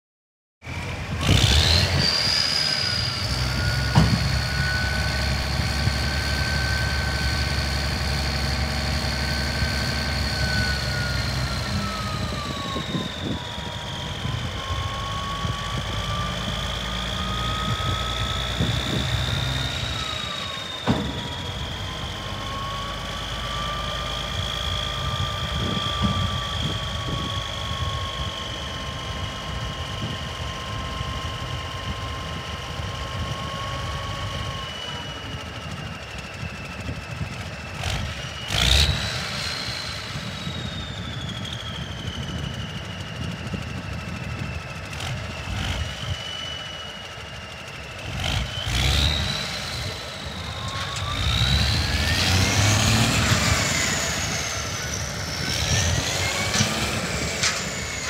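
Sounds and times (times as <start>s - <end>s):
diesel truck engine running: 0.6s - 58.0s
hydraulic pump whine: 0.6s - 58.0s.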